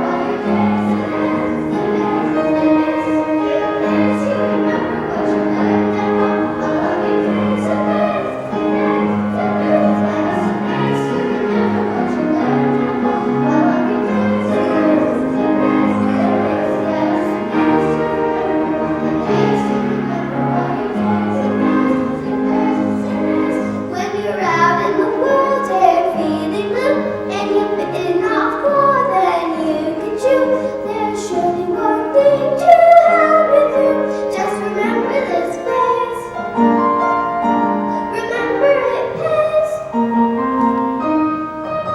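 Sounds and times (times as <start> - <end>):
children's choir singing: 0.0 - 41.9
instrumental accompaniment: 0.0 - 41.9.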